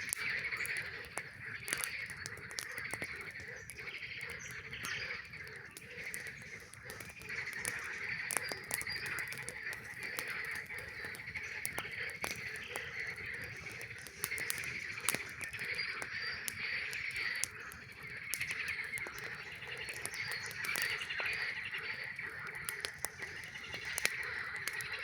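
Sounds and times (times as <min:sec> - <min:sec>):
campfire crackling: 0:00.0 - 0:25.0
frogs chorus trilling: 0:00.0 - 0:25.0.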